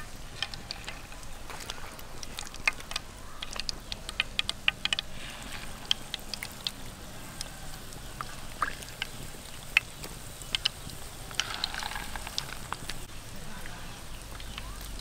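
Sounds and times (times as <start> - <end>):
fish sizzling in hot oil: 0.0 - 15.0
oil crackling and popping: 0.0 - 15.0.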